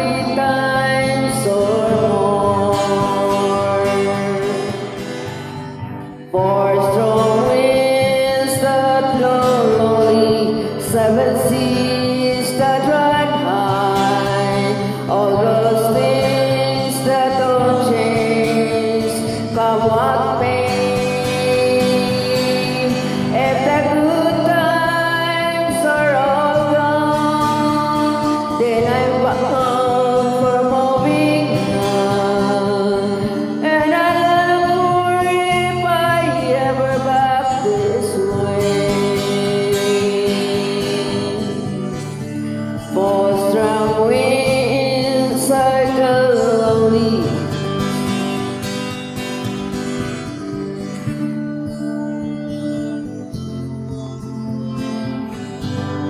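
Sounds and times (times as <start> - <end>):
country karaoke backing track: 0.0 - 56.0.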